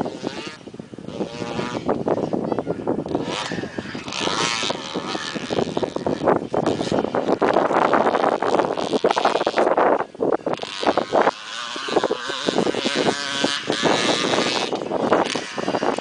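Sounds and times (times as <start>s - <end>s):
motocross bike engine revving: 0.0s - 16.0s
wind buffeting microphone: 0.0s - 16.0s.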